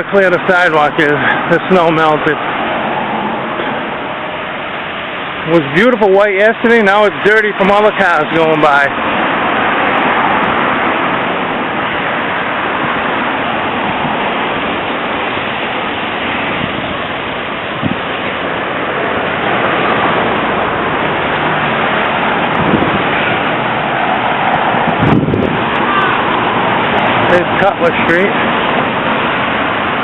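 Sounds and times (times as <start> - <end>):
car tyres on wet road: 0.0 - 30.0.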